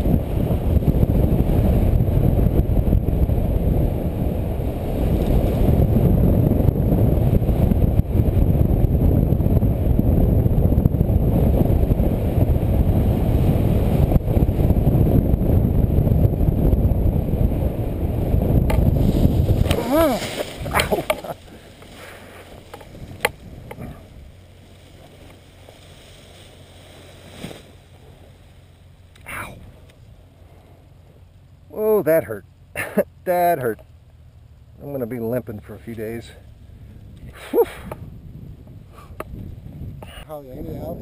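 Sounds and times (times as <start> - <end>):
wind rushing over microphone: 0.0 - 28.4, 29.2 - 30.2, 36.0 - 41.0.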